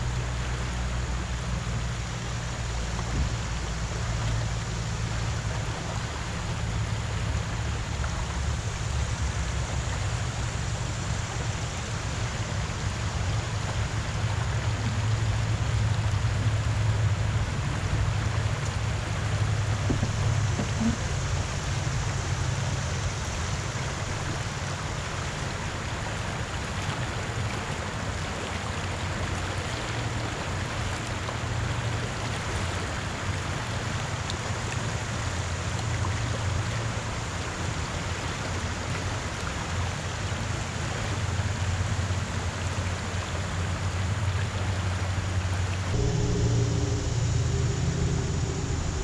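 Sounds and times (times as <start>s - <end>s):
low steady rumble: 0.0s - 49.0s
river water lapping: 0.0s - 49.0s.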